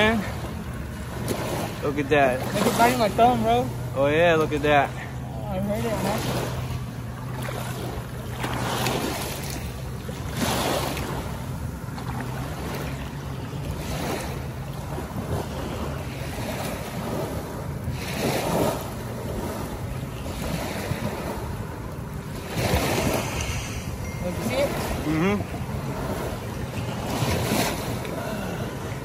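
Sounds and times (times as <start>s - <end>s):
water lapping at shore: 0.0s - 29.0s.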